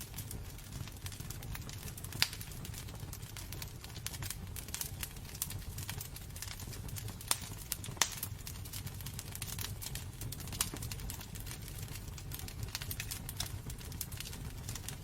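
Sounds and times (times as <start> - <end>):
fire crackling: 0.0 - 15.0
fire flames rumbling: 0.0 - 15.0
fire popping: 0.0 - 15.0.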